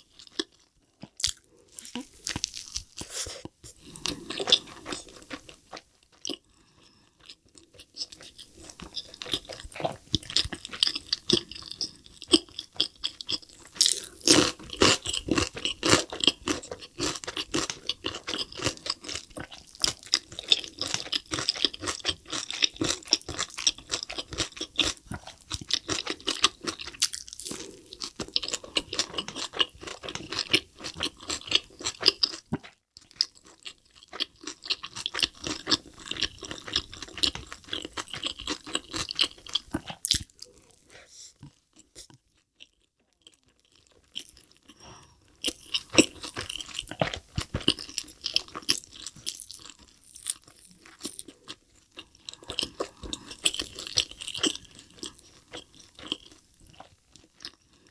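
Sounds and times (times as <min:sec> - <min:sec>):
burger chewing with crunches: 0:07.2 - 0:57.9.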